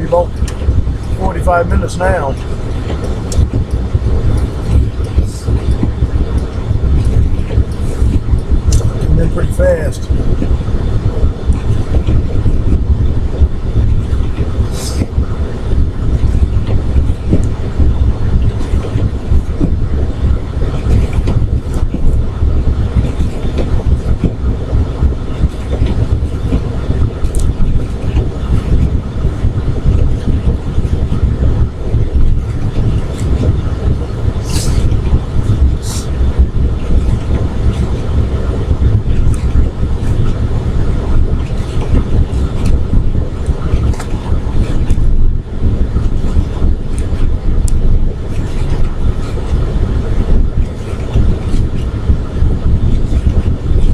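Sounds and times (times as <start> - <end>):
car tyres and engine rumble: 0.0 - 53.9.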